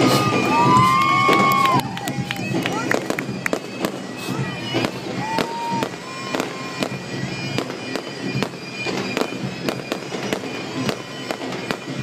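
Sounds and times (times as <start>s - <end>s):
bagpipes playing: 0.0s - 12.0s
firework whistle: 0.0s - 12.0s
fireworks bangs and crackles: 0.0s - 12.0s.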